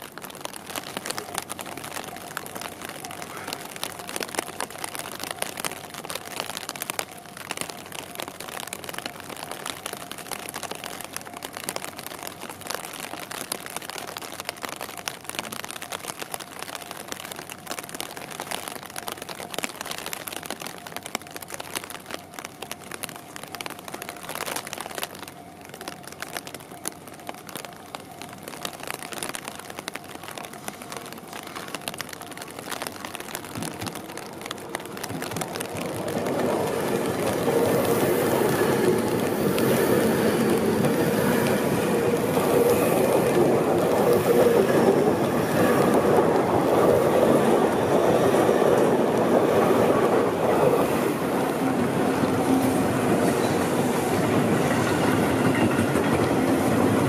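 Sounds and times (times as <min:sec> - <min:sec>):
electric train passing: 0:00.0 - 0:13.3, 0:20.5 - 0:57.0
rain pattering: 0:00.0 - 0:57.0.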